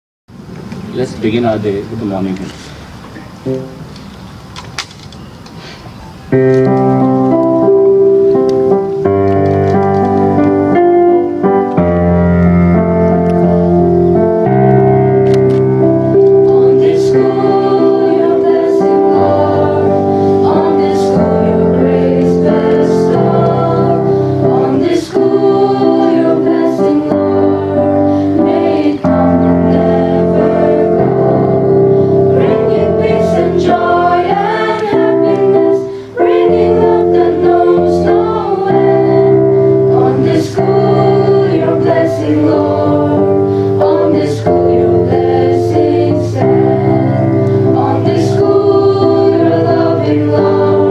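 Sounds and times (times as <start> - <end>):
keyboard accompaniment: 3.1 - 50.9
children's choir singing a hymn: 7.0 - 50.9.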